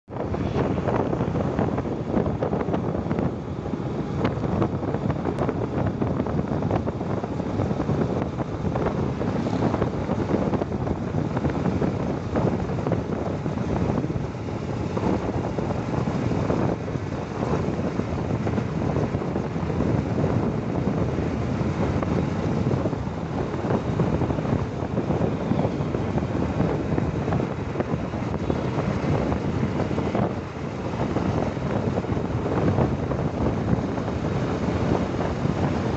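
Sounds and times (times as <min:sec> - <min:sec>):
vehicle road and engine rumble: 0:00.0 - 0:35.9
wind buffeting microphone: 0:00.0 - 0:35.9.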